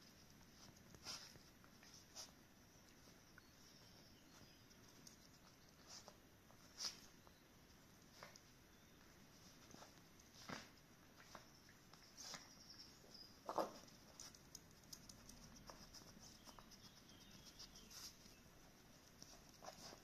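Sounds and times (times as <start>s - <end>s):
puppies rustling snuffle mat: 0.0s - 20.0s.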